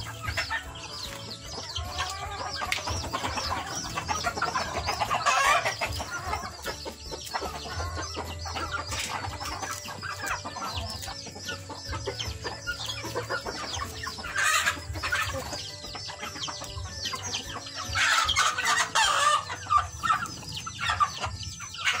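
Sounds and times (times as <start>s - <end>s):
chickens clucking and chirping: 0.0s - 22.0s.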